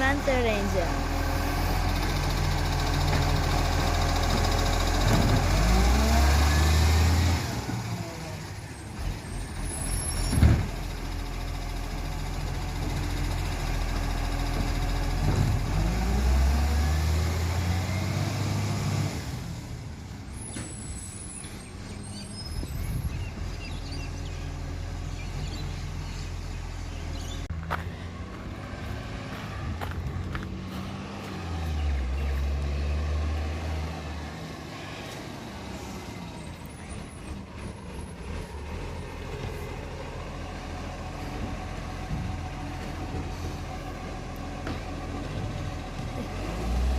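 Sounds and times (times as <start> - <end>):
garbage truck diesel engine: 0.0 - 46.9.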